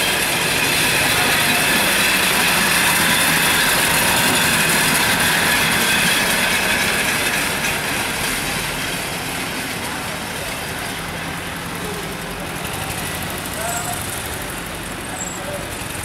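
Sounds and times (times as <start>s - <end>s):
rail trolley running on track: 0.0s - 16.0s.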